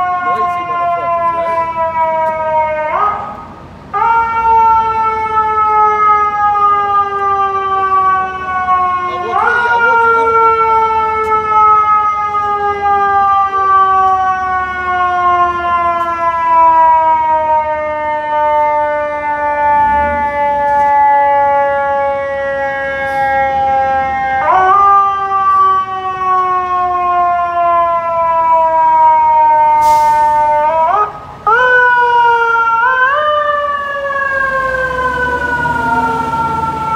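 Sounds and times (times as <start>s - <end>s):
mechanical siren wailing: 0.0s - 36.9s.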